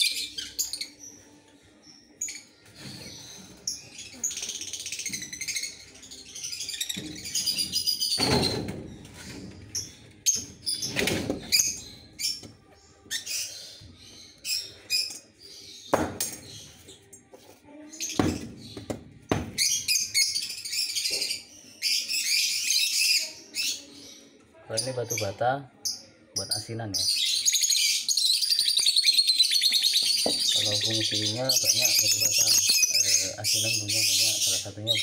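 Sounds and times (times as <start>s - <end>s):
lovebirds chirping: 0.0s - 17.2s, 17.9s - 35.0s.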